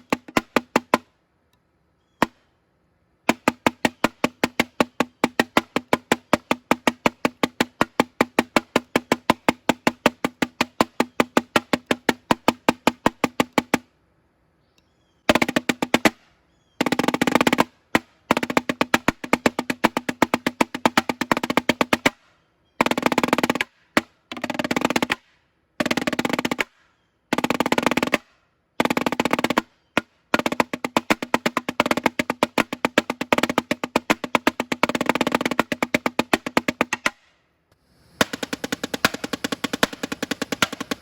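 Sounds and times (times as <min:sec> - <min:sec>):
snare drum strokes and rolls: 0:00.0 - 0:01.0, 0:03.3 - 0:13.8, 0:15.3 - 0:16.2, 0:16.8 - 0:22.2, 0:22.8 - 0:26.7, 0:27.3 - 0:37.2, 0:38.1 - 0:41.0.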